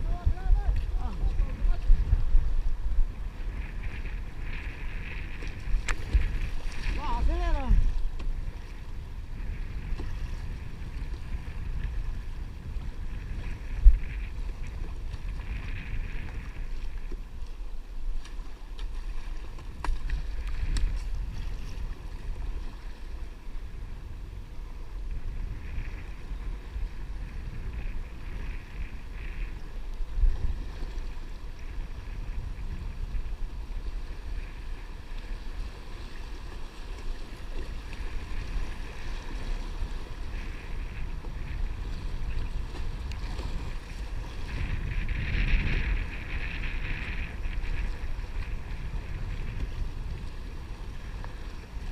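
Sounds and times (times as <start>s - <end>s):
faint water noise: 0.0s - 51.9s
wind buffeting microphone: 0.0s - 51.9s.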